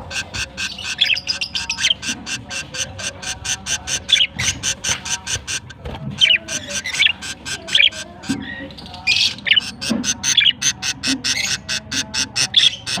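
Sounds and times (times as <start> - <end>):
budgerigars chirping: 0.0 - 13.0
budgerigars squawking: 0.0 - 13.0.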